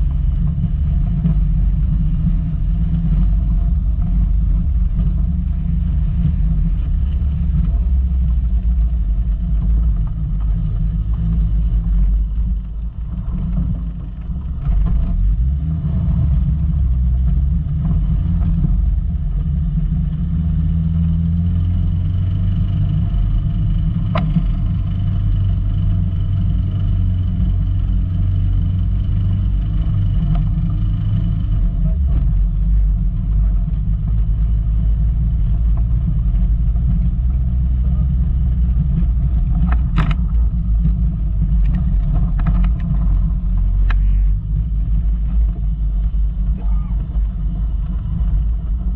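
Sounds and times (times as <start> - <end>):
car engine rumble off road: 0.0 - 48.9.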